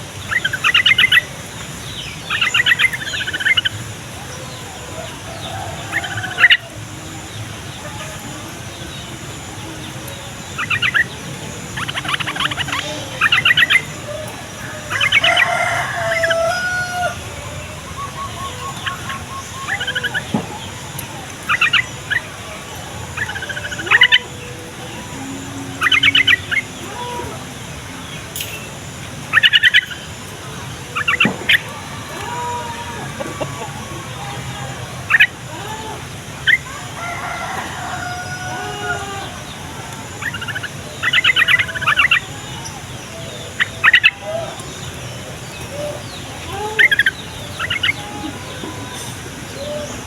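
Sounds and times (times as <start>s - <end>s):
bulbuls bubbling chatter: 0.0s - 50.0s
rooster crowing: 4.0s - 10.2s, 10.9s - 28.2s, 30.5s - 50.0s.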